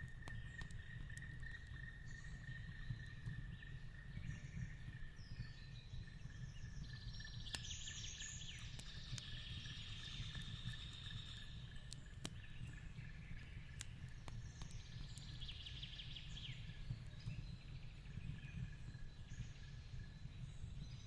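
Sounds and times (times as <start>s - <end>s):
fire crackling and popping: 0.0s - 5.1s, 6.0s - 20.9s.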